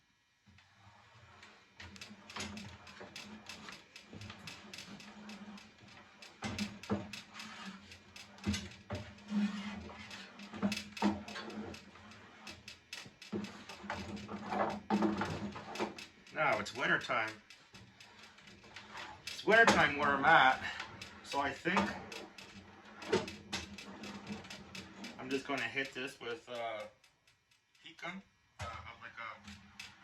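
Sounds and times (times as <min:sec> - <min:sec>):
low steady hum: 0:00.0 - 0:30.0
rubbing and scraping: 0:00.6 - 0:26.1, 0:29.4 - 0:30.0.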